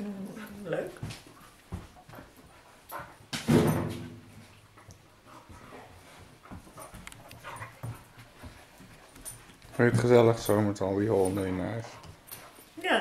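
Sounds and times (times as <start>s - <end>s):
dogs scuffling: 0.3s - 13.0s.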